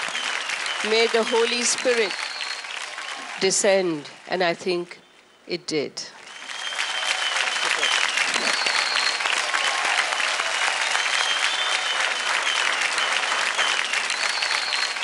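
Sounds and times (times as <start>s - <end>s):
high whistles and cheers: 0.0s - 3.7s, 6.2s - 15.0s
audience applauding: 0.0s - 4.4s, 6.2s - 15.0s.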